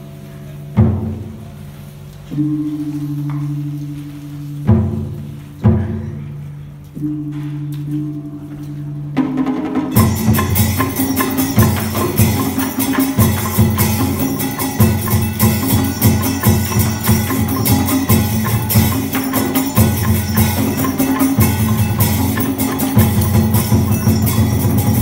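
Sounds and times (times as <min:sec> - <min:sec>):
drums and hand percussion: 0:00.0 - 0:25.0.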